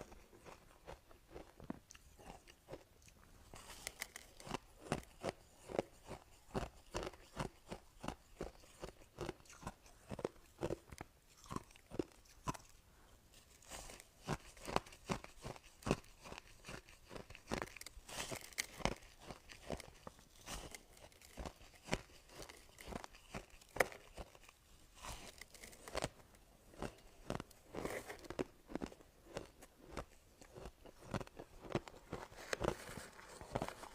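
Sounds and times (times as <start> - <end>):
ice being chewed: 0.0 - 33.9.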